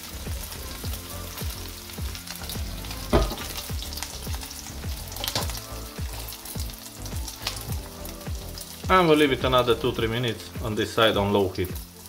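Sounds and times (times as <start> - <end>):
lard sizzling and popping: 0.0 - 12.0.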